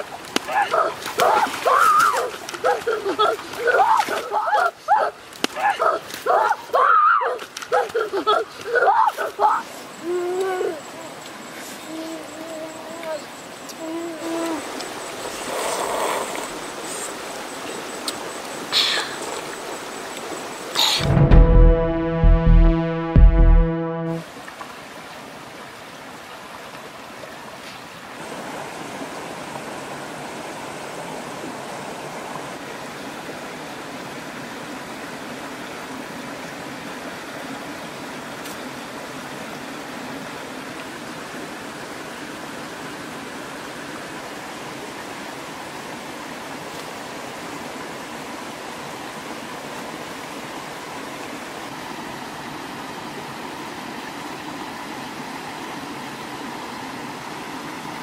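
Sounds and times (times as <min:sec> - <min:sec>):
river rushing over stones: 0:00.0 - 0:13.7, 0:24.2 - 0:58.0.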